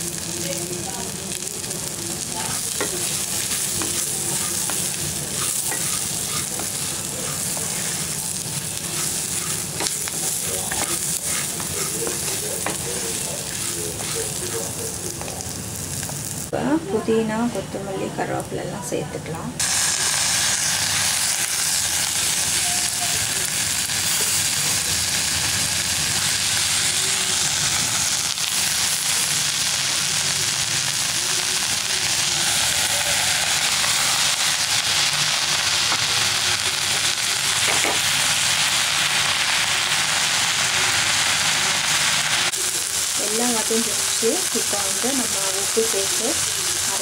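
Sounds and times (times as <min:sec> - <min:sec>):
oil sizzling in a pan: 0:00.0 - 0:16.5, 0:19.6 - 0:47.0.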